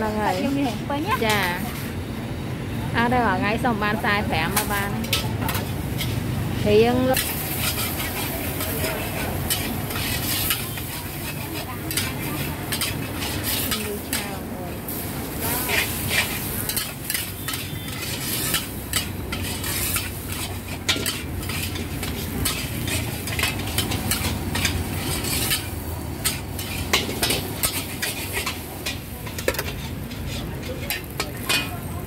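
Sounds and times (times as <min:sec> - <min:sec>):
metal spatula scraping a wok: 0:00.0 - 0:02.0, 0:03.8 - 0:32.0
food sizzling: 0:00.0 - 0:32.0.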